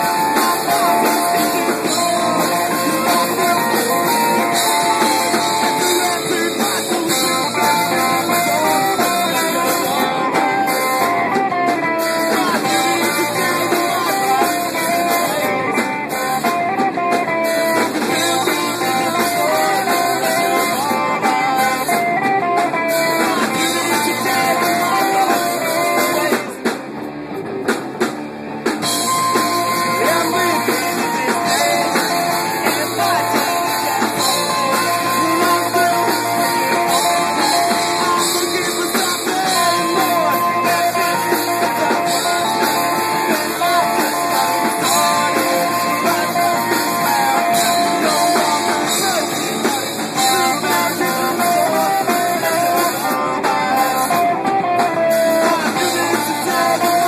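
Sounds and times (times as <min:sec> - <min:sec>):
person singing lead vocal: 0:00.0 - 0:26.8, 0:28.8 - 0:57.0
bass guitar: 0:00.0 - 0:57.0
drum kit: 0:00.0 - 0:57.0
electric guitars: 0:00.0 - 0:57.0.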